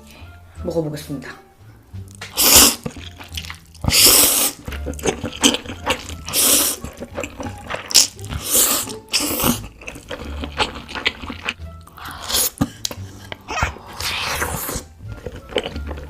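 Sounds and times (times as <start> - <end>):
noodles being slurped: 2.1 - 16.0.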